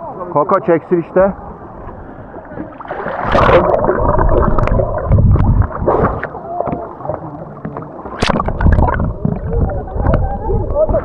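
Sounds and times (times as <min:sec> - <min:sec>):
low rumble on microphone: 0:01.4 - 0:11.0
water sloshing and splashing: 0:01.5 - 0:11.0.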